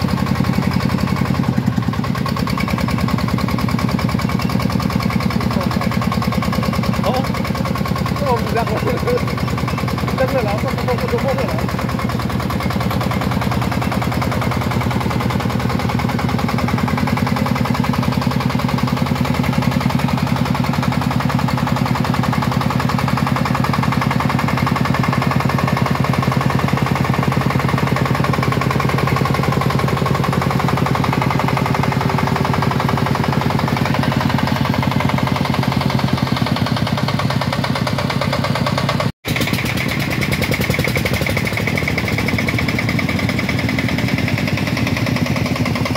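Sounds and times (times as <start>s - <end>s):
diesel engine chugging: 0.0s - 45.9s.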